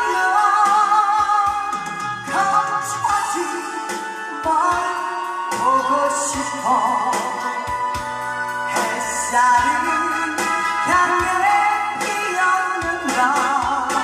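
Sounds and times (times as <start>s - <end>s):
backing track with drum beat: 0.0s - 14.0s
woman singing: 0.0s - 14.0s.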